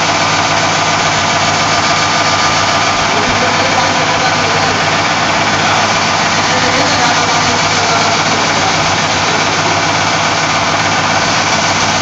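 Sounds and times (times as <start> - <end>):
seam welding machine buzzing: 0.0 - 12.0.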